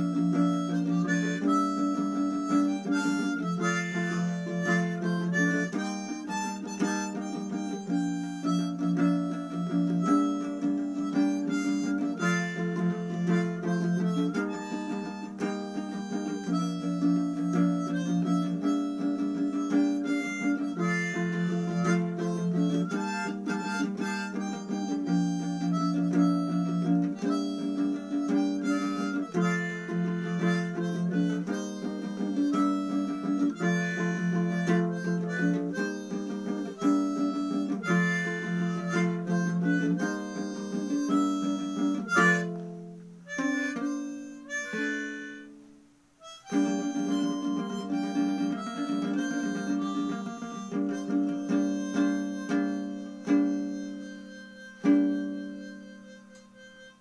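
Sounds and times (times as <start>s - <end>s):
harmonica melody: 0.0s - 57.0s
ukulele strumming: 0.0s - 57.0s.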